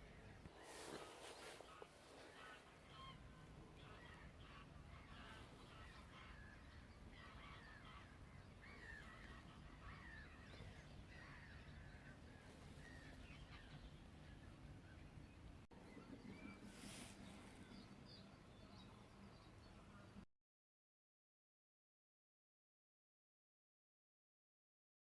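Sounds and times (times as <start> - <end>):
faint bird calls: 0.0 - 20.2.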